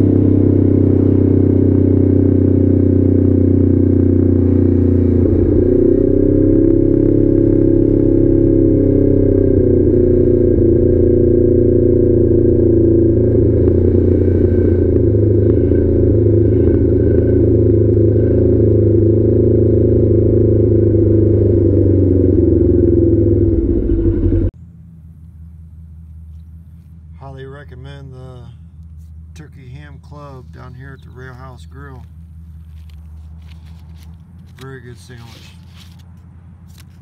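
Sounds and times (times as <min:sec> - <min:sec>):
vehicle engine droning: 0:00.0 - 0:37.0.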